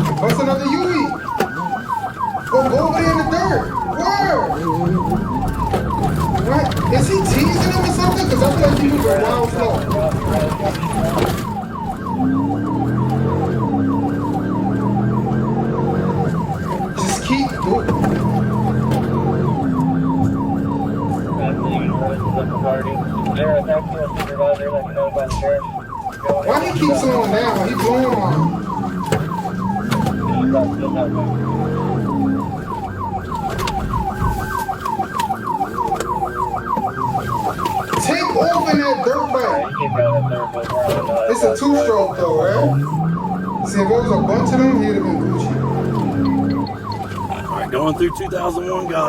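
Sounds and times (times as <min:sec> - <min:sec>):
engine revving: 0:00.0 - 0:24.4, 0:26.2 - 0:49.0
moving vehicle drone: 0:00.0 - 0:49.0
police siren yelp: 0:00.0 - 0:49.0.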